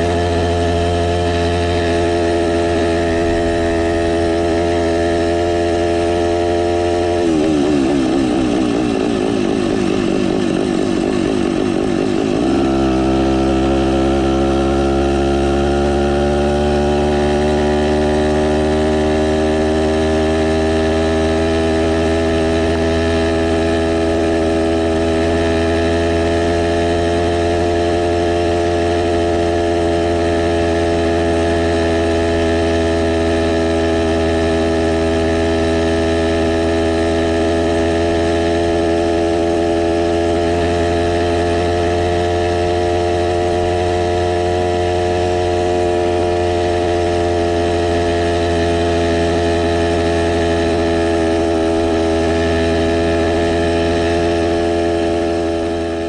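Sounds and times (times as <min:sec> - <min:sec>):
two-stroke engine running: 0:00.0 - 0:56.0.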